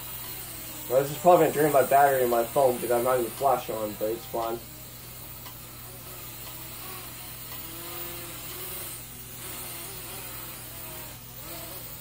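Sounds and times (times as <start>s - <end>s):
quadcopter motors whirring: 0.0s - 12.0s.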